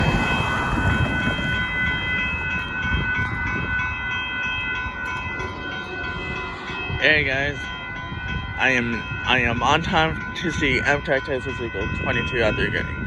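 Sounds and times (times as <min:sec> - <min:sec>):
high ringing tones: 0:00.0 - 0:13.0
train rumbling on rails: 0:00.0 - 0:13.0.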